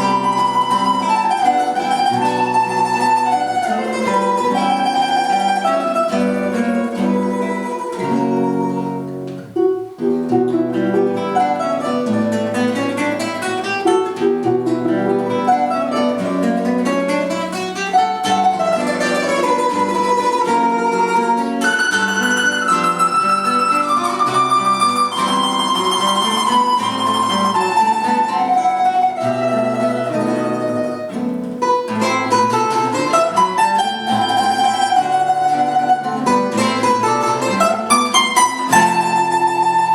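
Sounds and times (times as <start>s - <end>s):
plucked string instruments duet: 0.0s - 39.9s.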